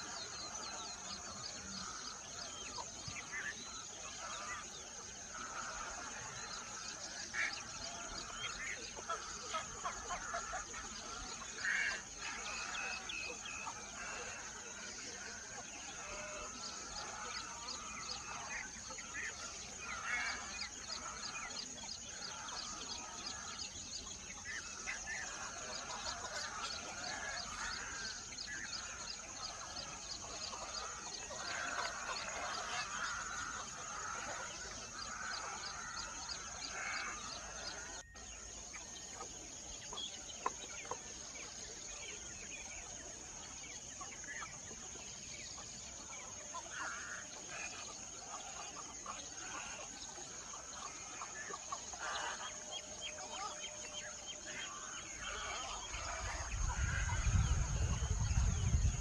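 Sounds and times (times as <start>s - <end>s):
birds calling and chattering: 0.0s - 59.0s.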